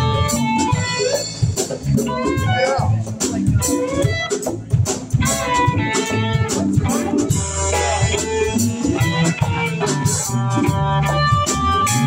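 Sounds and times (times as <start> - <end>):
conga drums: 0.0 - 12.0
live band playing: 0.0 - 12.0.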